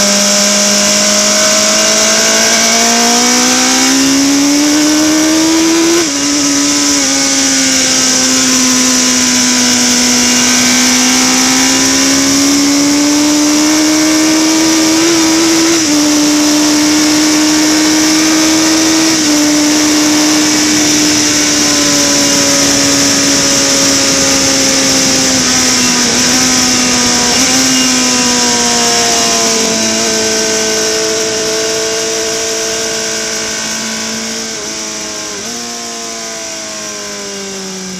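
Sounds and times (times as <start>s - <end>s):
motorcycle engine at high revs: 0.0s - 37.9s.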